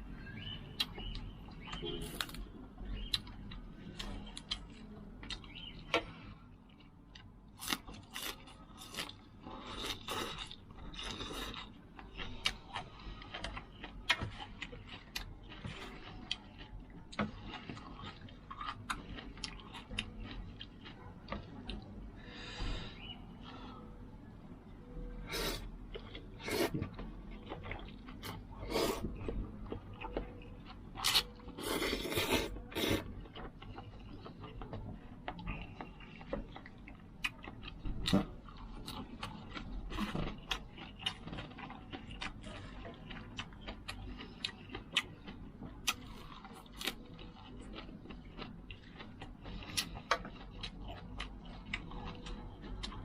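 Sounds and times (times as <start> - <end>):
person chewing and slurping noodles: 6.6 - 23.6, 25.2 - 53.0.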